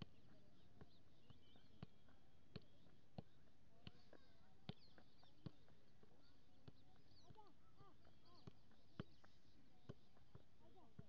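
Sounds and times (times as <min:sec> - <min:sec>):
birds chirping: 0:00.0 - 0:11.0
football taps on foot: 0:00.0 - 0:11.0.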